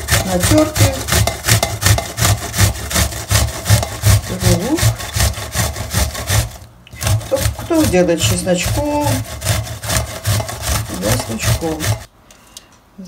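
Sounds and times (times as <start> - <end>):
onion grated on metal grater: 0.0 - 12.1.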